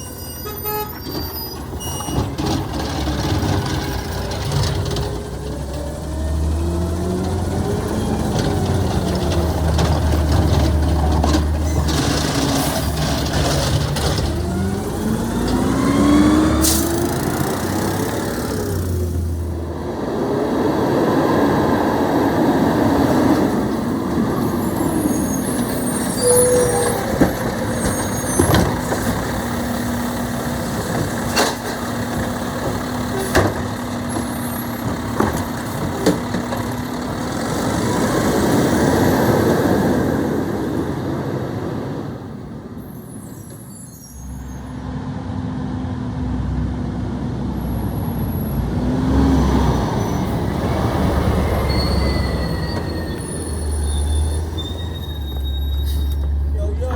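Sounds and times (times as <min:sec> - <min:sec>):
garbage truck engine: 0:00.0 - 0:56.9.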